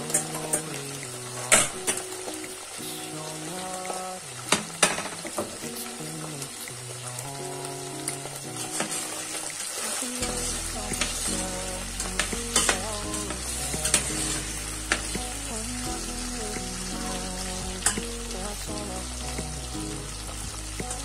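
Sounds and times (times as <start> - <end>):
background music with held notes: 0.0 - 21.0
meat sizzling in hot oil: 0.0 - 21.0.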